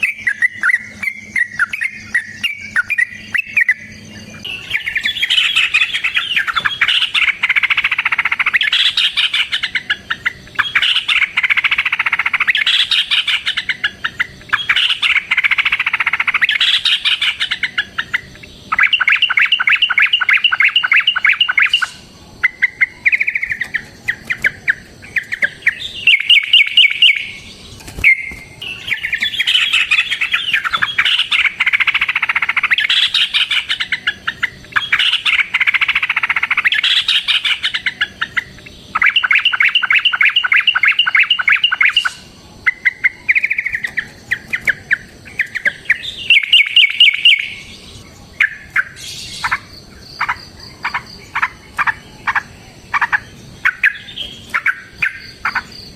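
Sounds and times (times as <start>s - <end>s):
bird chattering calls: 0.0s - 55.9s.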